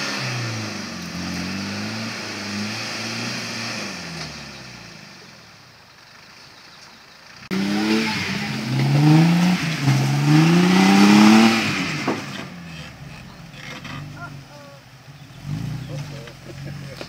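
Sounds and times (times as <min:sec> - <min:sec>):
engine revving: 0:00.0 - 0:06.3, 0:07.2 - 0:17.0.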